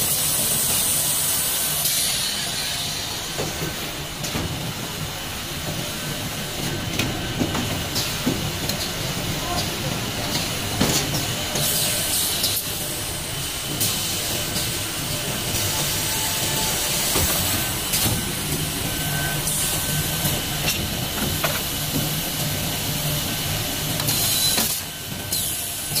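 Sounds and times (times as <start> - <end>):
machine mechanical hiss: 0.0 - 26.0.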